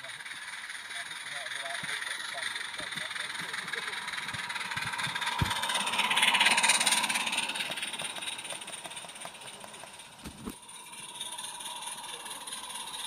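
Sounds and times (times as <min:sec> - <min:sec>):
steam locomotive exhaust hiss: 0:00.0 - 0:13.0.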